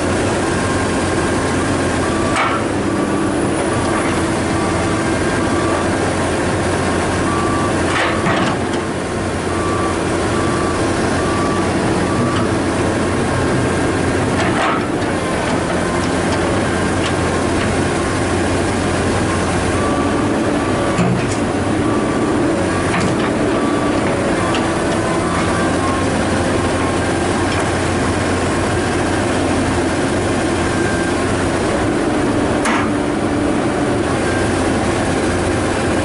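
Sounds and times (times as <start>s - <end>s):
excavator diesel engine droning: 0.0s - 36.0s.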